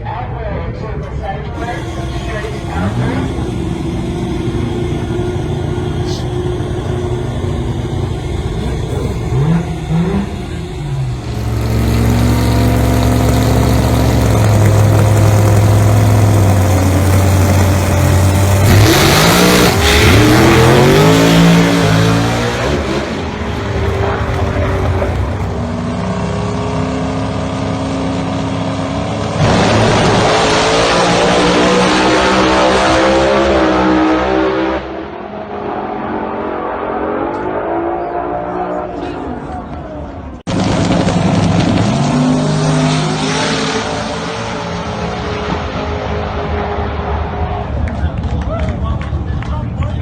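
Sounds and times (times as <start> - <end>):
drag car engine revving: 1.3 - 48.4.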